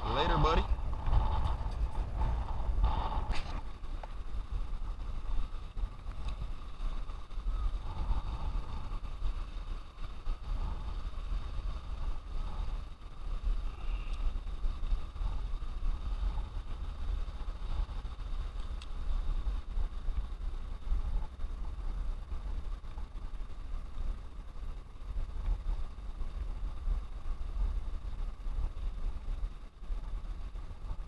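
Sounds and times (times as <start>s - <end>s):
wind on microphone: 0.0s - 31.0s.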